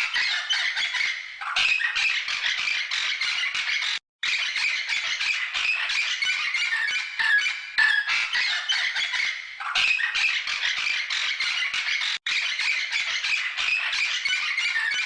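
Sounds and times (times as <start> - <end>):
birds squawking and chattering: 0.0 - 15.0.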